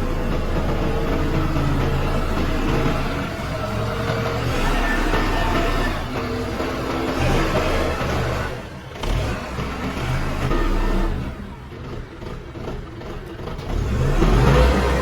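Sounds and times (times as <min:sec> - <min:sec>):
forklift diesel engine revving: 0:00.0 - 0:15.0.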